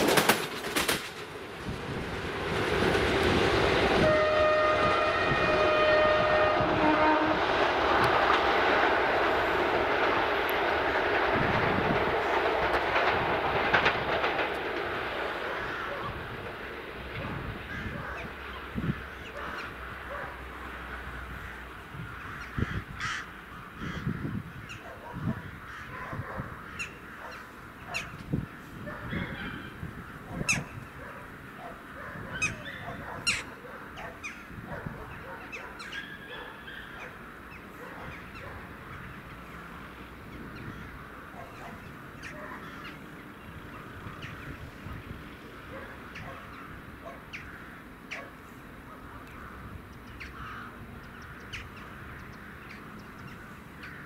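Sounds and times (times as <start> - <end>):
birds calling: 4.7 - 54.0
steady background noise: 7.4 - 54.0.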